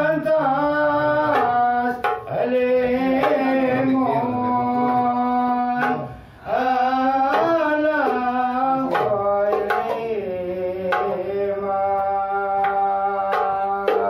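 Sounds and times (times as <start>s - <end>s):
hand-struck frame drums: 0.0s - 14.0s
people singing long sliding phrases: 0.0s - 14.0s.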